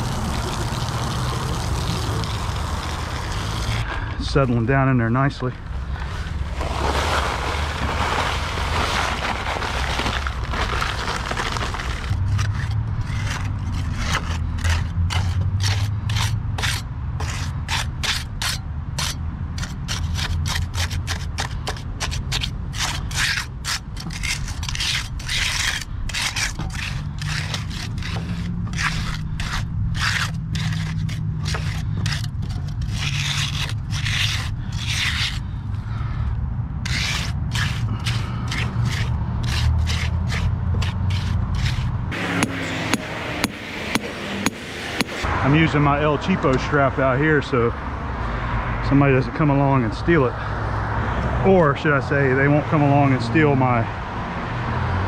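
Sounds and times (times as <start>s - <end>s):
trowel scraping wet concrete: 0.0s - 35.6s, 36.8s - 45.7s.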